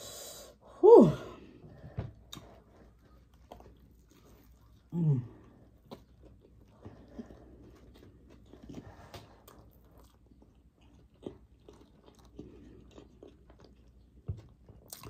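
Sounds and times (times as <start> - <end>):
faint chewing with crunches: 1.5 - 15.0.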